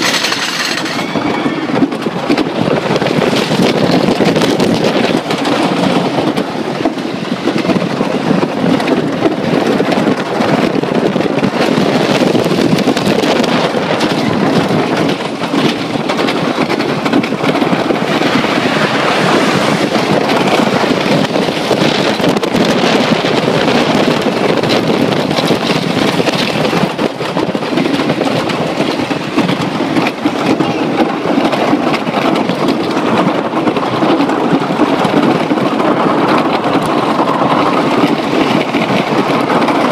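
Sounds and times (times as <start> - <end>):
roller coaster rumbling and rattling: 0.0 - 39.9
wind on microphone: 0.0 - 39.9.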